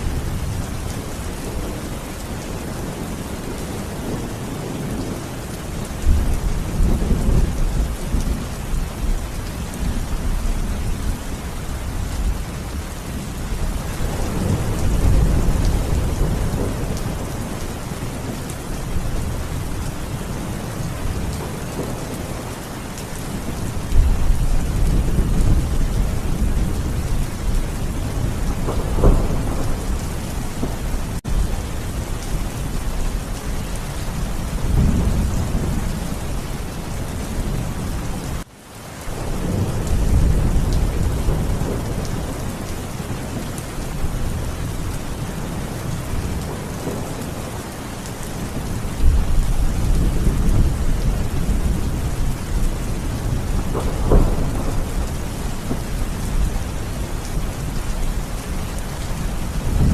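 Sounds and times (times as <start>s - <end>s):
thunder rumbling: 0.0s - 38.4s, 39.1s - 59.9s
steady rain: 0.0s - 59.9s.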